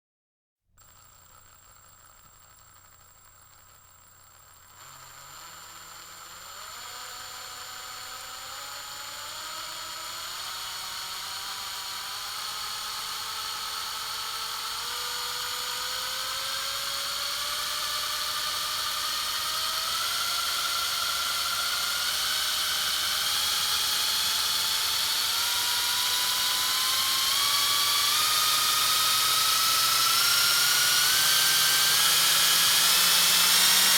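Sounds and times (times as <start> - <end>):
drill motor whine: 0.8 - 33.9.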